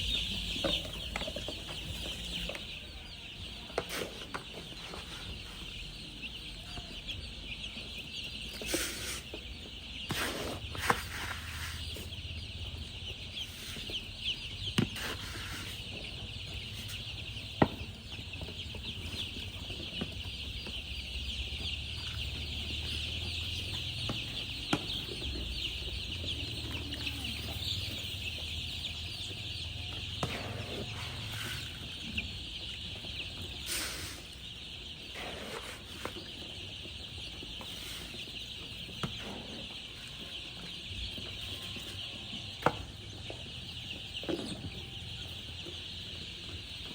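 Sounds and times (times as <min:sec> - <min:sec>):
baby chicks peeping: 0:00.0 - 0:46.9.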